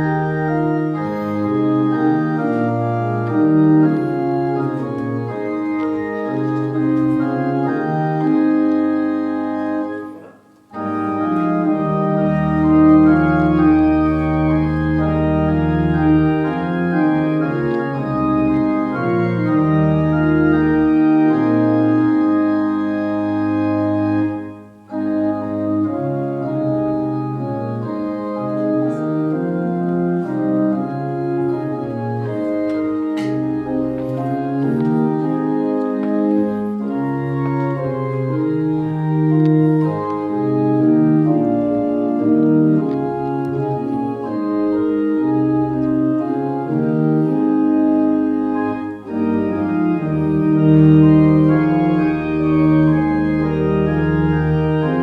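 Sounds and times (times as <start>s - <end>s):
organ playing held chords: 0.0s - 55.0s.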